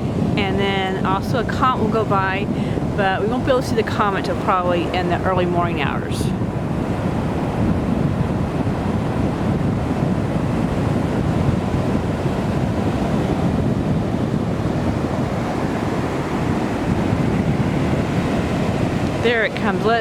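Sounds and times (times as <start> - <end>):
surf washing onto beach: 0.0 - 20.0
wind rumbling on microphone: 0.0 - 20.0.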